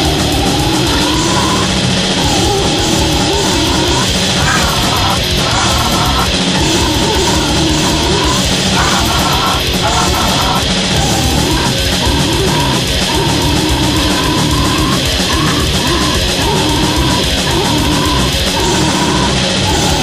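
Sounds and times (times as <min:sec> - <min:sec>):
distorted guitar and drums: 0:00.0 - 0:20.0.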